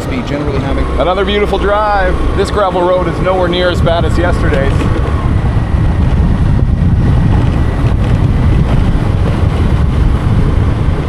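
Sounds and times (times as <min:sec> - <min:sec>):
scooter running on gravel road: 0:00.0 - 0:11.0
wind buffeting microphone: 0:00.0 - 0:11.0.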